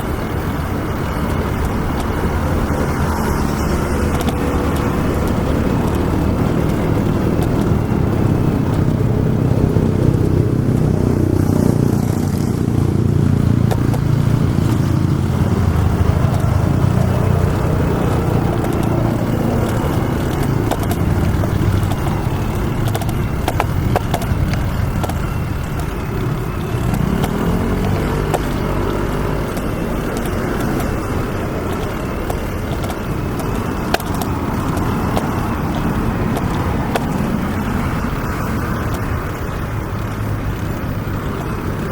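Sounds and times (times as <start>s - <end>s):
road rumble: 0.0s - 41.9s
vehicle engines passing: 0.0s - 41.9s.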